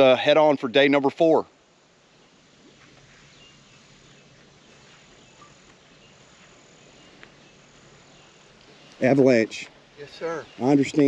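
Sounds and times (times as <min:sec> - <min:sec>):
insects trilling: 0:01.6 - 0:11.0.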